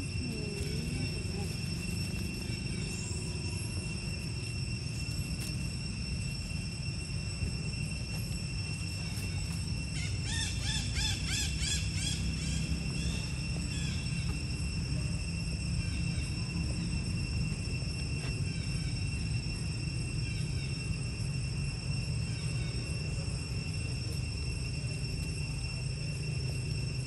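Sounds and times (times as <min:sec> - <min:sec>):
high-pitched insect drone: 0:00.0 - 0:27.0
low wind rumble: 0:00.0 - 0:27.0.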